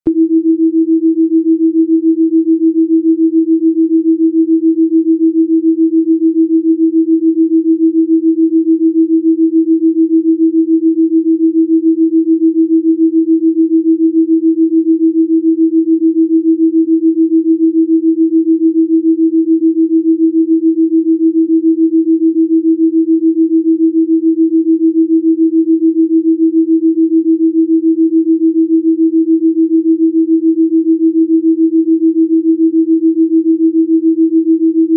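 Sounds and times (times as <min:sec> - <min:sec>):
pulsing sine tone: 0:00.1 - 0:34.9.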